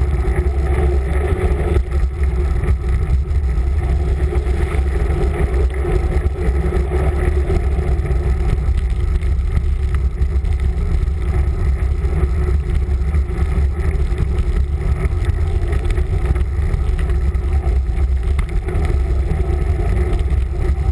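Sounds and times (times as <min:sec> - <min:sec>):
river rushing with deep roar: 0:00.0 - 0:20.9.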